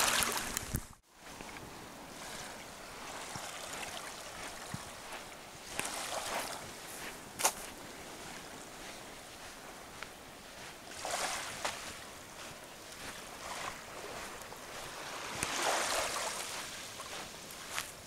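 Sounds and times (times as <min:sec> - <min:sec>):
small waves lapping on beach: 0:00.0 - 0:18.0.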